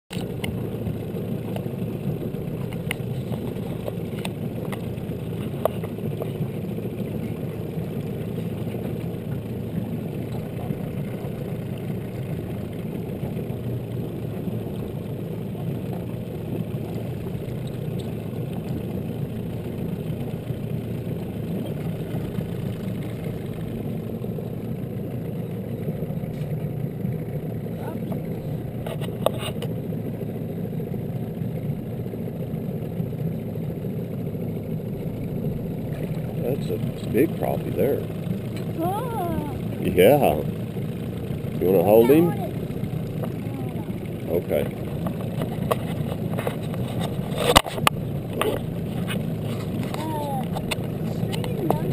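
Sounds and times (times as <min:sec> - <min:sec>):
boat motor rumbling: 0:00.1 - 0:51.9.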